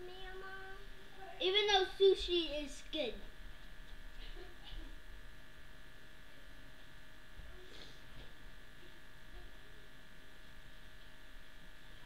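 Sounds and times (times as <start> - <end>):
steady electrical buzz: 0.0 - 12.0.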